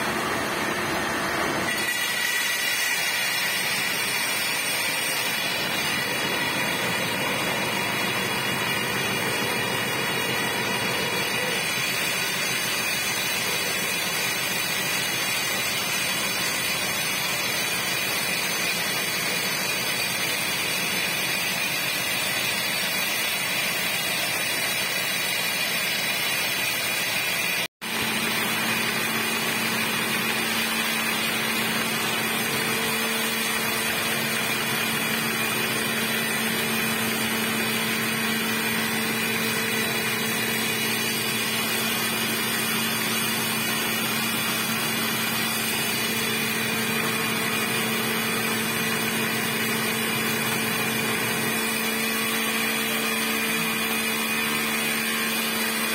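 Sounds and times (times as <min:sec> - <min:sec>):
hydraulic rock drill boring: 0:00.0 - 0:55.9.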